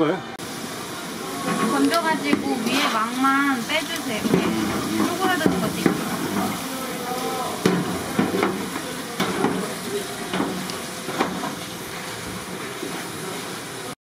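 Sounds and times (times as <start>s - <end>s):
fish cakes sizzling in oil: 0.4s - 14.0s.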